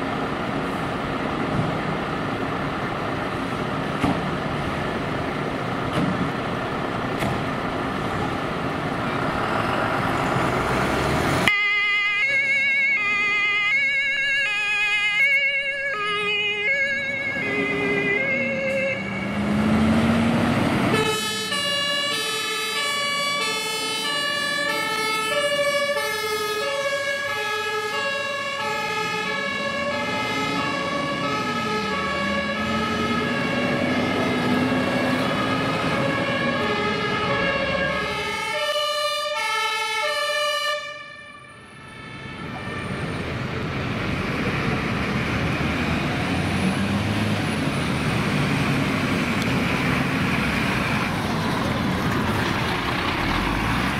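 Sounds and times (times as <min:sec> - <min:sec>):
diesel engines pulling away: 0:00.0 - 0:53.9
traffic noise: 0:00.0 - 0:53.9
two-tone sirens: 0:06.7 - 0:53.9.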